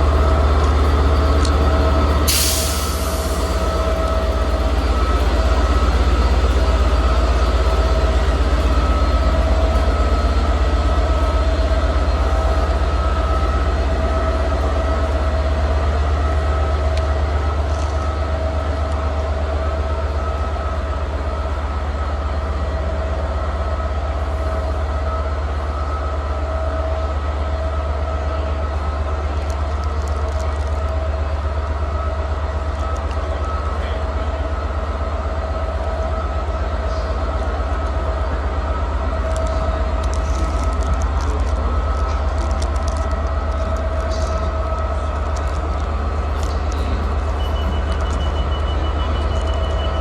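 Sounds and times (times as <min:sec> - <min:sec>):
diesel locomotive idling: 0:00.0 - 0:50.0.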